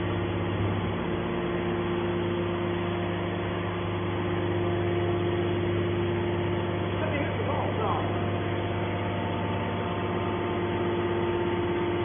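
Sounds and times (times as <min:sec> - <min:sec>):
hydraulic power unit humming: 0:00.0 - 0:12.0.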